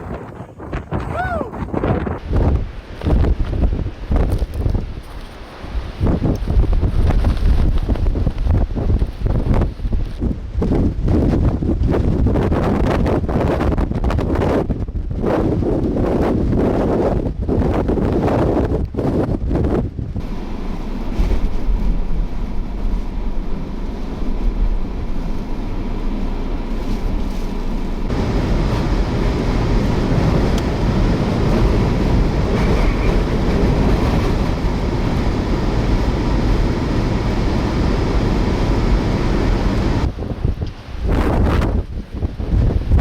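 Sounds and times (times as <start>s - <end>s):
strong wind on microphone: 0.0s - 43.0s
vehicle driving low rumble: 0.0s - 43.0s.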